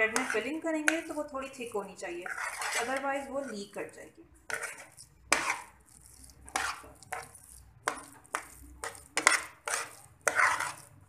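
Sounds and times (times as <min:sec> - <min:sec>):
metal spatula scraping a pan: 0:00.0 - 0:11.0.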